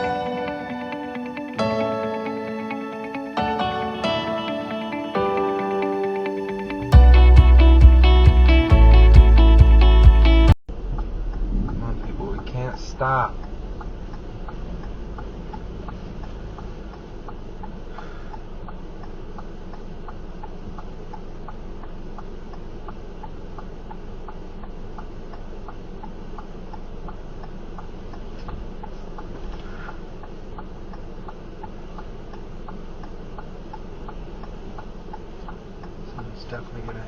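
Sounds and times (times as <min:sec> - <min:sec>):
turn-signal flasher ticking: 0:00.0 - 0:10.3, 0:12.4 - 0:37.0
low rumble inside car: 0:07.0 - 0:37.0.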